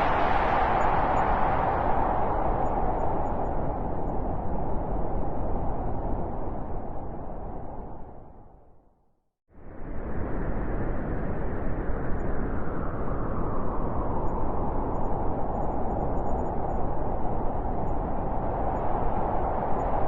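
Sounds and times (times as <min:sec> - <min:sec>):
blizzard wind blowing: 0:00.0 - 0:08.8, 0:09.5 - 0:20.0.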